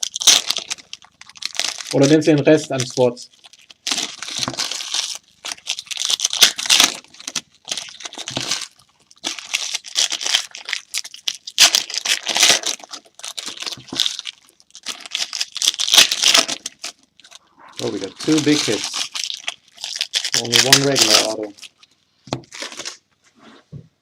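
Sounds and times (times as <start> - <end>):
plastic wrapping crinkling: 0.0 - 23.1.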